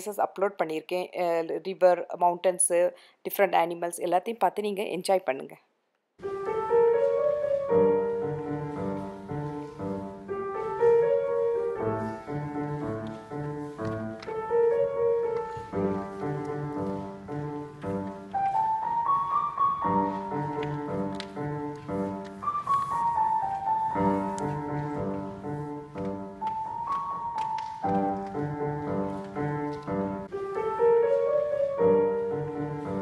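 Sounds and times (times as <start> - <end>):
piano music: 6.2 - 33.0.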